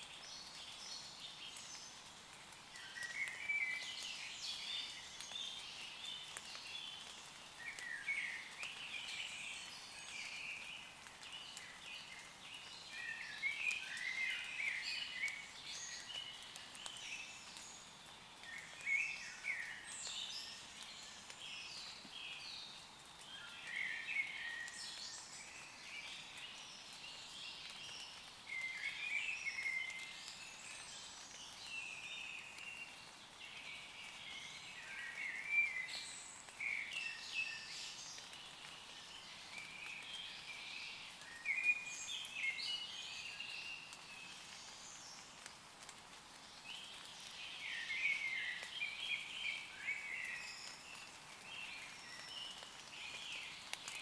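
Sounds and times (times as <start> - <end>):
light rain on leaves: 0.0 - 54.0
woodland birds singing: 0.0 - 54.0.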